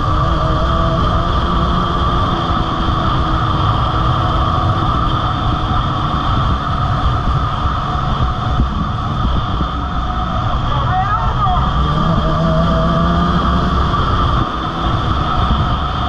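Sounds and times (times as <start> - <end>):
dirt bike engine running: 0.0 - 16.0
tires on gravel: 0.0 - 16.0.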